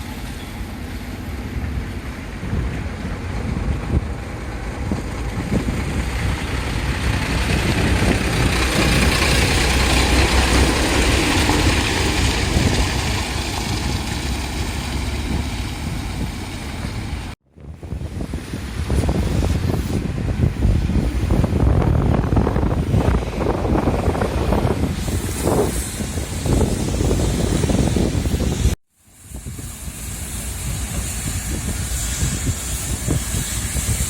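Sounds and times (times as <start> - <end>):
engine rumbling: 0.0 - 28.8.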